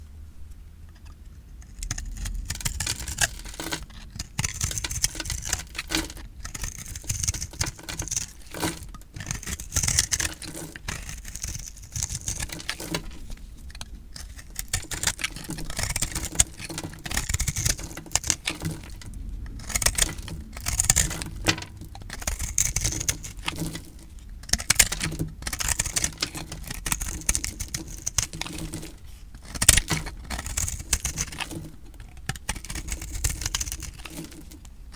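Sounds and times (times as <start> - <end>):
blade crunching through dry soap: 1.4 - 34.9.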